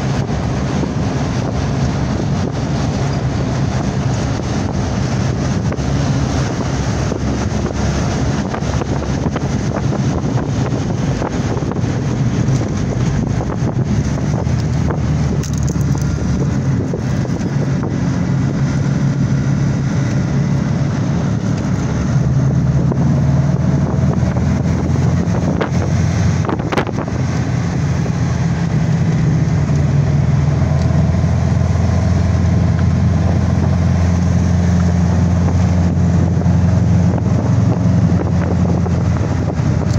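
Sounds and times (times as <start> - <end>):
vintage car engine running: 0.0 - 39.9
wind rushing over microphone: 0.0 - 39.9.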